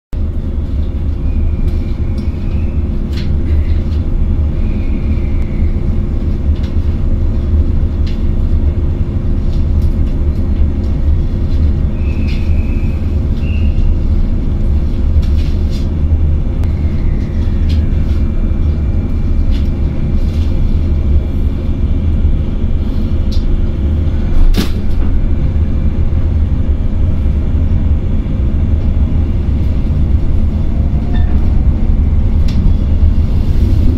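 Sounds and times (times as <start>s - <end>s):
train running rumble: 0.1s - 33.9s.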